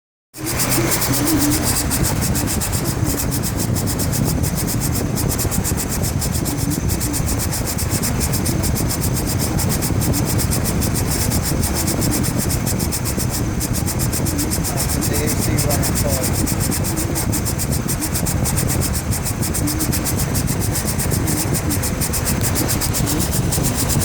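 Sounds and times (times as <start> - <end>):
car engine running: 0.4 - 24.0
compressor clutch scraping: 0.4 - 24.0.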